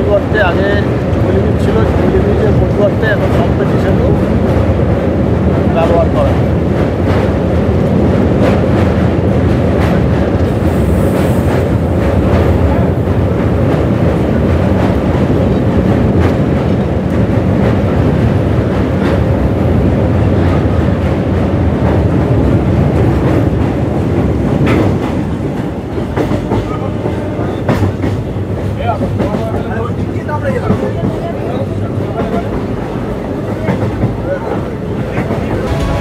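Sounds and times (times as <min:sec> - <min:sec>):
clickety-clack of rail joints: 0:00.0 - 0:36.0
train rumbling over rail bridge: 0:00.0 - 0:36.0.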